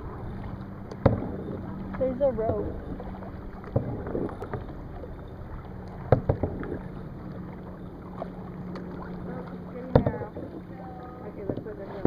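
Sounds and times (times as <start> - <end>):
low steady hum: 0.0 - 12.0
water wash: 0.0 - 12.0.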